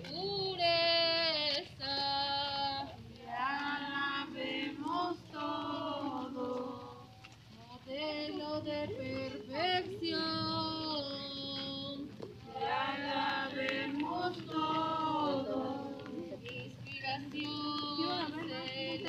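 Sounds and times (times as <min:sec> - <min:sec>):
group of people singing: 0:01.8 - 0:07.2, 0:07.9 - 0:19.0.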